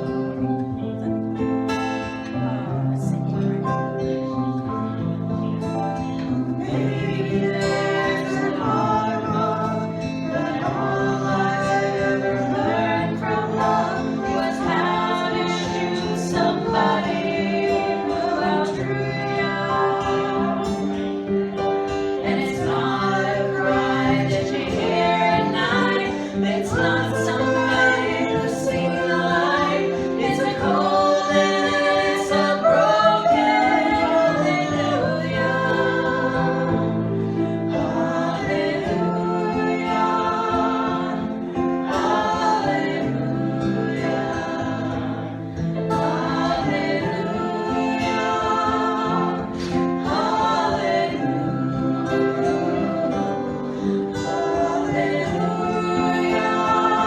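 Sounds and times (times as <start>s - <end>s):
group singing: 0.0s - 57.0s
guitar accompaniment: 0.0s - 57.0s.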